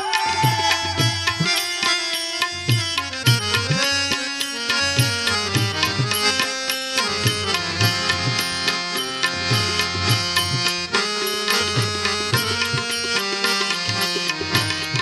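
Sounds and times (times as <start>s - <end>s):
sustained melodic instrument: 0.0s - 15.0s
tabla drum rhythm: 0.0s - 15.0s.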